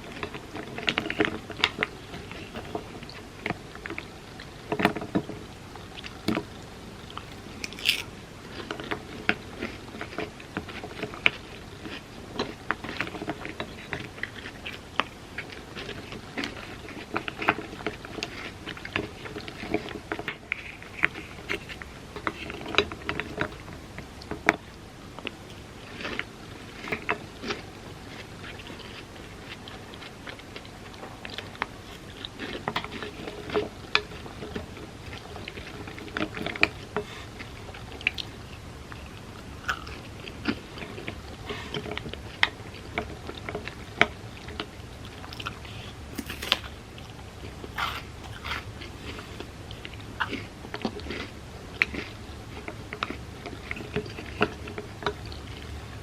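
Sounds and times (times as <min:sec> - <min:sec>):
chewing and crunching wafer: 0:00.0 - 0:56.0.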